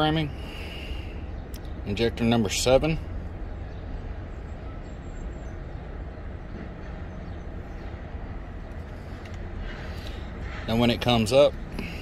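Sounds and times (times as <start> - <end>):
low rumble of vehicle noise: 0.0 - 12.0.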